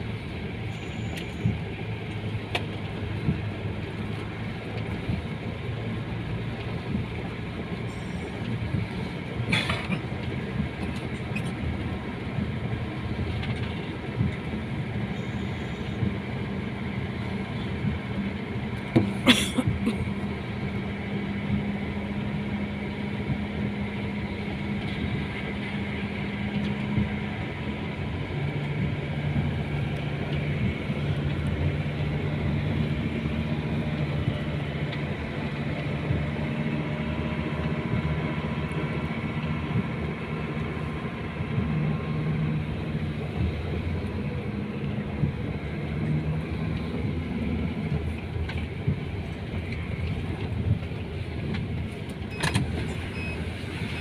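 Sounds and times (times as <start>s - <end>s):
vehicle engine and road hum: 0.0s - 54.0s.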